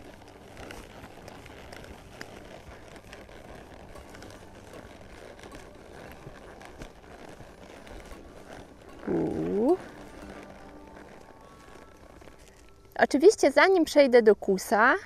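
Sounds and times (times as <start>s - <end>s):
horse hooves on sand: 0.0s - 15.0s.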